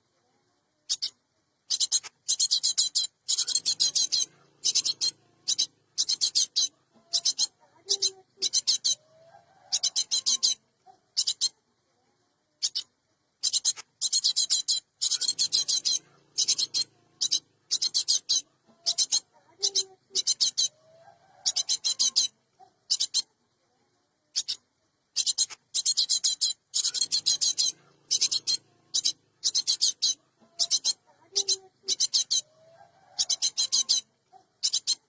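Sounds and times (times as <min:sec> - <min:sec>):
bird rasping chatter calls: 0:00.9 - 0:01.1, 0:01.7 - 0:11.6, 0:13.4 - 0:23.3, 0:24.4 - 0:24.6, 0:25.2 - 0:35.0.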